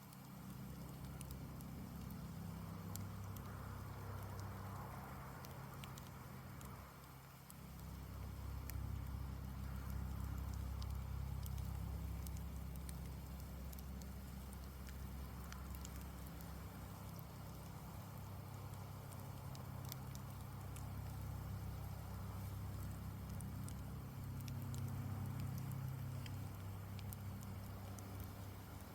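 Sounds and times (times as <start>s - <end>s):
campfire crackling and popping: 0.0s - 28.9s
steady low rumble: 0.1s - 28.9s.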